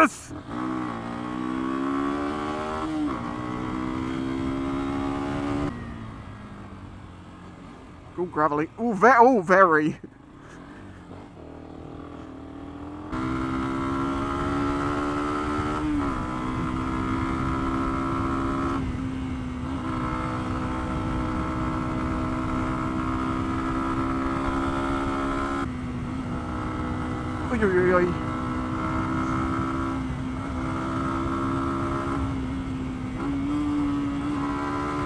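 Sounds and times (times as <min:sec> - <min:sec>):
motorcycle engine droning: 0:00.0 - 0:35.0.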